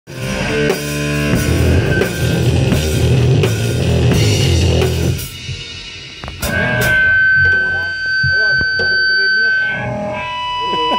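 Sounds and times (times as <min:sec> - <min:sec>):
drum kit with cymbal crashes: 0:00.1 - 0:10.9
electric guitar: 0:00.1 - 0:10.9.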